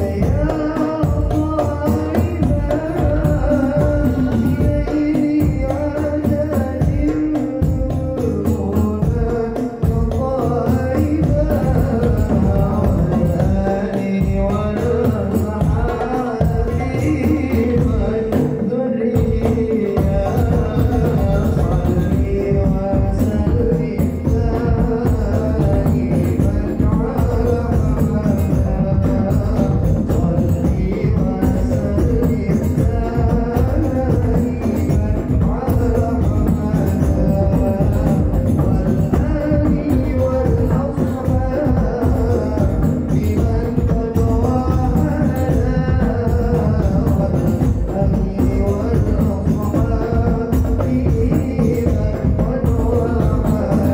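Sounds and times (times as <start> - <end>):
deep bass drum: 0.0 - 18.4, 19.1 - 53.9
hand-struck frame drums: 0.0 - 53.9.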